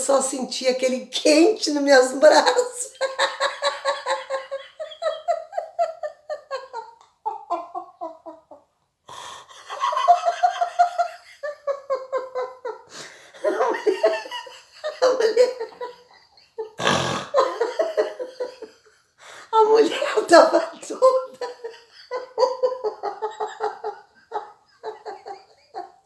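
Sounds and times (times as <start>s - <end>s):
woman laughing hard: 2.8s - 8.6s, 9.5s - 19.0s, 19.8s - 26.0s.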